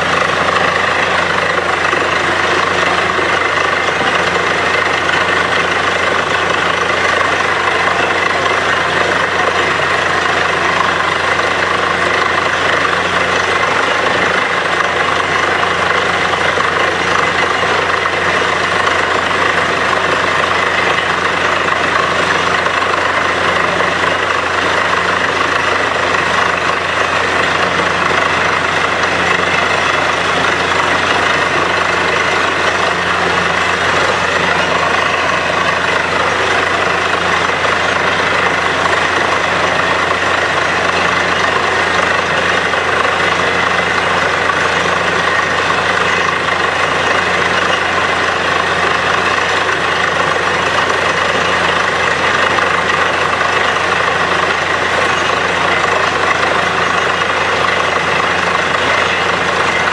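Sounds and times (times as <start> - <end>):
low engine hum: 0.0 - 59.9
rush of air and muddy water: 0.0 - 59.9.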